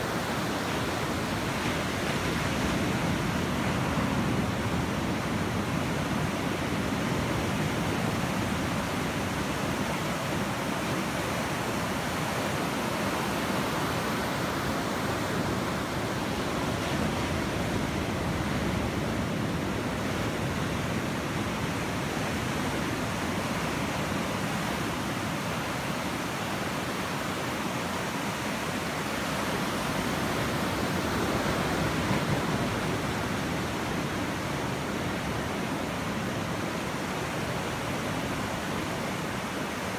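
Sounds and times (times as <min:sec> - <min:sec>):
surf washing onto a beach: 0:00.0 - 0:39.9.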